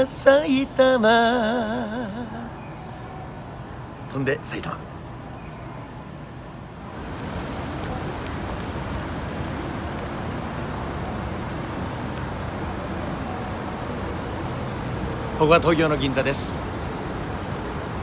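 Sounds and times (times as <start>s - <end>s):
passing vehicles rushing: 0.0s - 18.0s.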